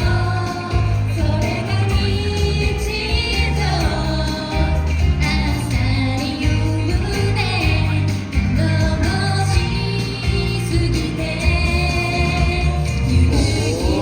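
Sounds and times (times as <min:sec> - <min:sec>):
live pop music with singing: 0:00.0 - 0:14.0.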